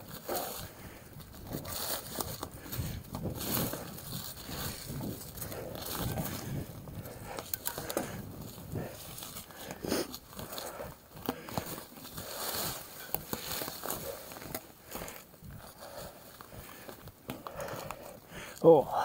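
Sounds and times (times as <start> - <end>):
bike clicks and rattles: 0.0 - 18.7
tyres crunching on dirt: 0.0 - 18.8.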